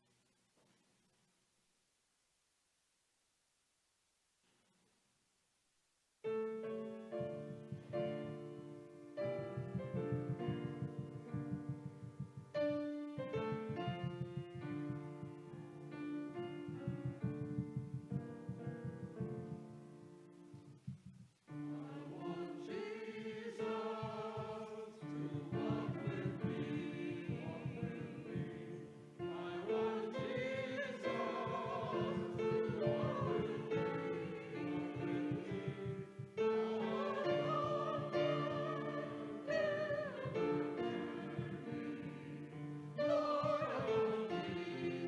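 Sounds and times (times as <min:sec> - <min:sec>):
keyboard accompaniment: 0:06.3 - 0:45.0
voices singing church music: 0:07.1 - 0:19.8, 0:21.5 - 0:45.0.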